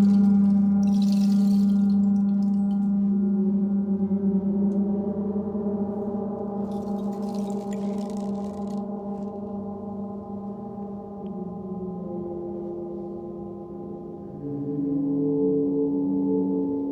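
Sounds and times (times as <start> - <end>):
low singing bowl ringing: 0.0 - 16.9.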